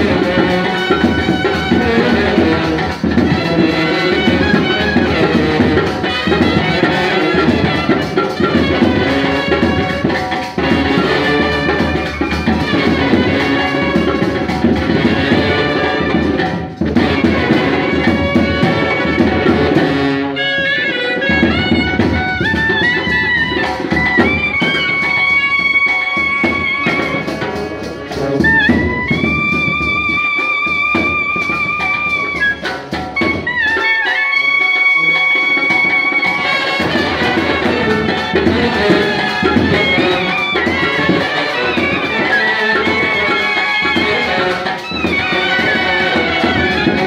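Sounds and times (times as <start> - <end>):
band with brass and drums: 0.0 - 47.0
clarinet melody: 0.0 - 47.0.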